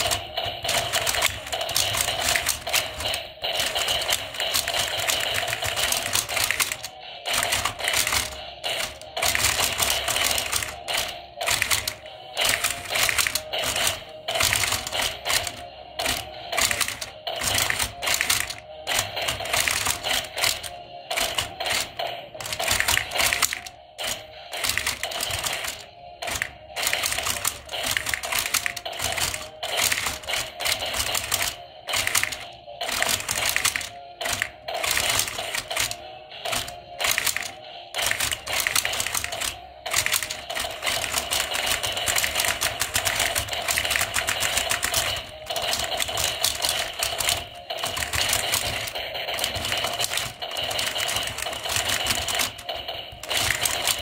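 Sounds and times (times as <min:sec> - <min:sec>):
plastic toy robot clatter: 0:00.0 - 0:54.0.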